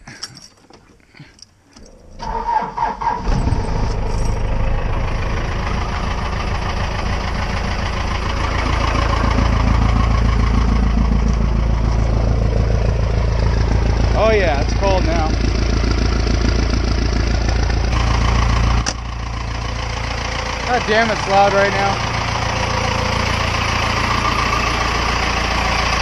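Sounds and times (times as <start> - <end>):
engine idling: 1.7 - 26.0.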